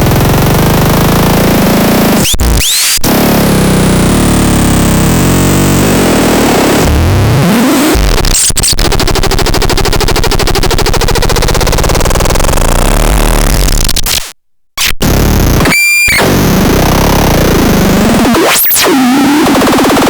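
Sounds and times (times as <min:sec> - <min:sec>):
harsh synthesized noise: 0:00.0 - 0:14.2, 0:14.8 - 0:20.0.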